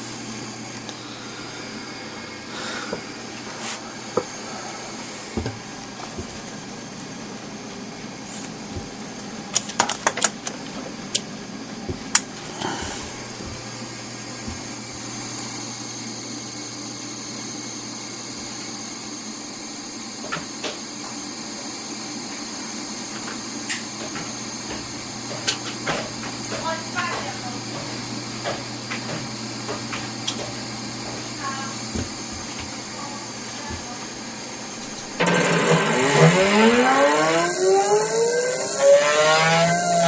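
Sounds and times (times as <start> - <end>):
stepper motor hum and whine: 0.0 - 22.2, 22.8 - 40.0.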